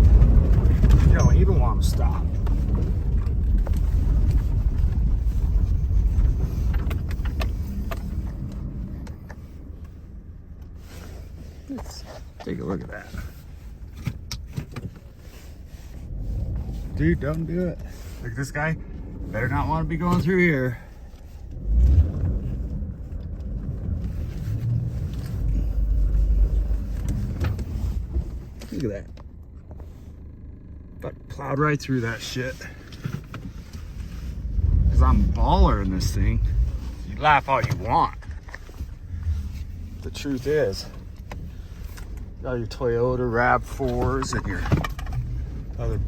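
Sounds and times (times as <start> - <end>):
car driving through snow: 0.0 - 14.2, 14.9 - 29.0, 29.9 - 46.0.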